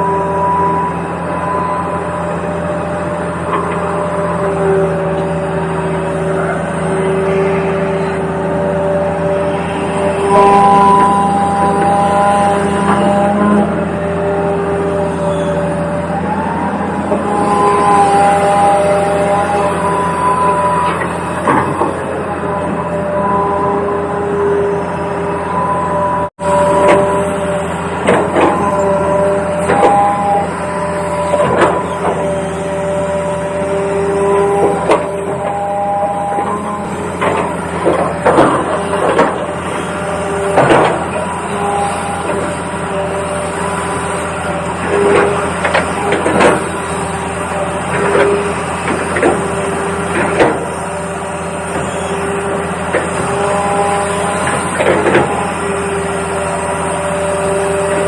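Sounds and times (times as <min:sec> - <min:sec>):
small electric motors whining: 0:00.0 - 0:58.0.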